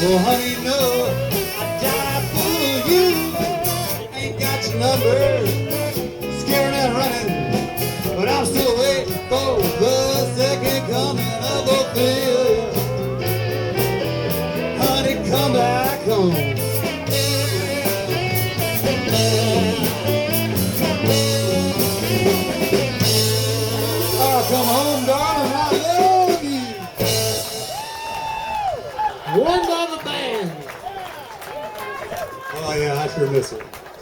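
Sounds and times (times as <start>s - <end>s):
electric guitar lead bending notes: 0.0s - 27.8s
drum kit steady beat: 0.0s - 28.7s
bass guitar: 0.0s - 29.1s.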